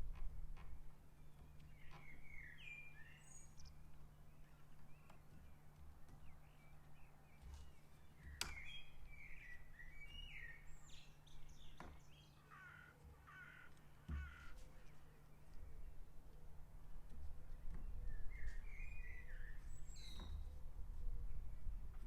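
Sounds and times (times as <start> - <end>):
faint birdsong: 0.1 - 22.0.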